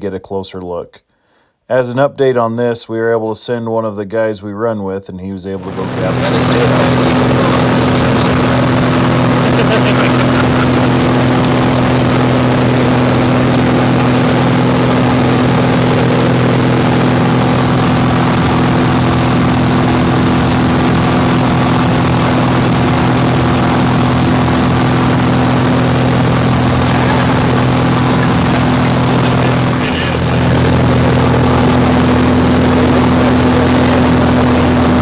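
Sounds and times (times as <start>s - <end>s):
propeller airplane engine drone: 5.6s - 35.0s.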